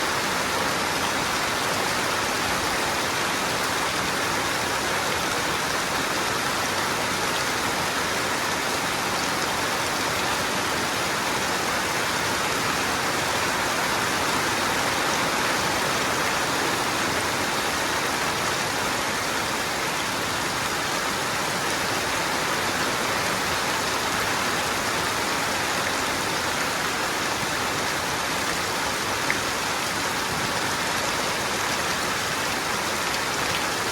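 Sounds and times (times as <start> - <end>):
rainwater running off roof: 0.0 - 33.9
steady rain: 0.0 - 33.9.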